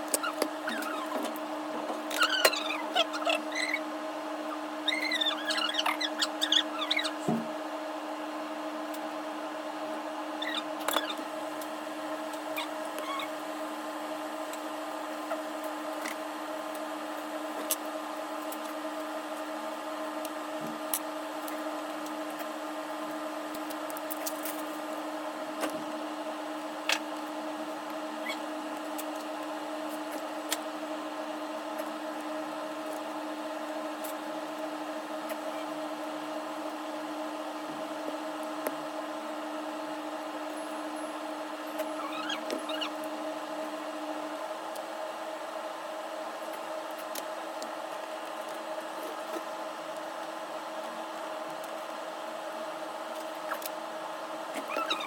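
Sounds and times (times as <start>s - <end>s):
steady equipment hum: 0.0s - 55.0s.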